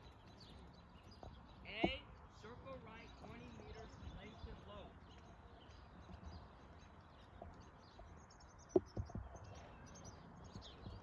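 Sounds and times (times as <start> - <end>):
faint outdoor background noise: 0.0 - 11.0
small birds chirping: 0.0 - 11.0.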